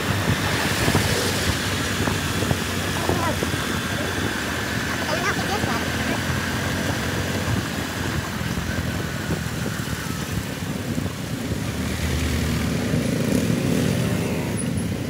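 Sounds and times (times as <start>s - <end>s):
motorcycle engine revving: 0.0s - 15.0s
road traffic rumble: 0.0s - 15.0s.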